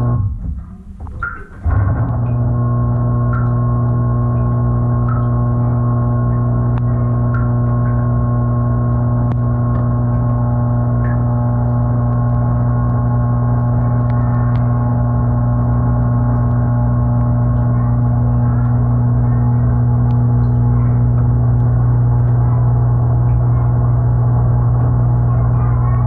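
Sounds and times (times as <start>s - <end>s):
dishwasher motor hum: 0.0s - 26.0s.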